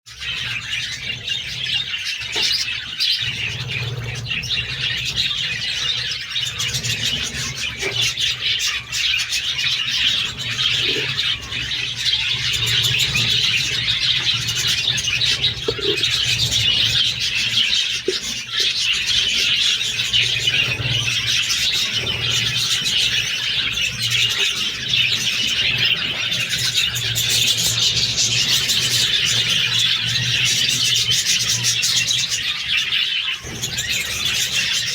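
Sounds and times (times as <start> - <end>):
budgerigars chattering and chirping: 0.2 - 34.9.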